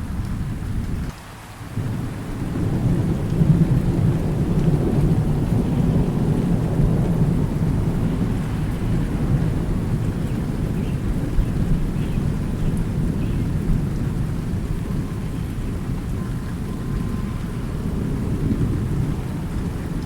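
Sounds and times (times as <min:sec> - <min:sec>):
rain hissing: 0:00.0 - 0:20.0
thunder rumbling: 0:01.8 - 0:20.0.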